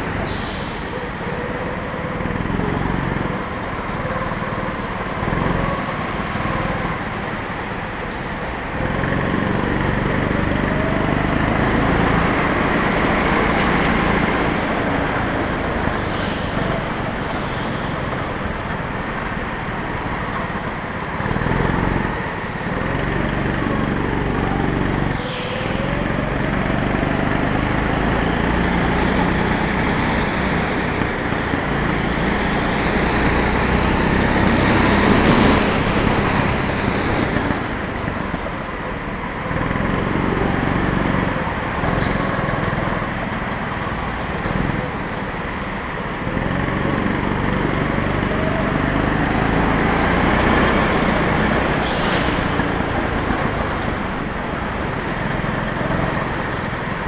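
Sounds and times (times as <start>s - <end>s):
go-kart engine accelerating: 0.0s - 57.0s.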